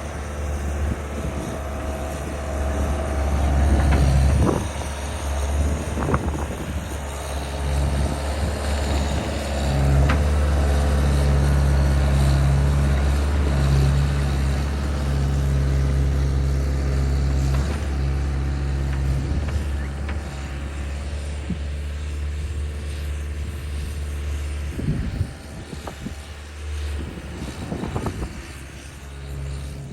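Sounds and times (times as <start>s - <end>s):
skid steer engine running: 0.0s - 29.9s.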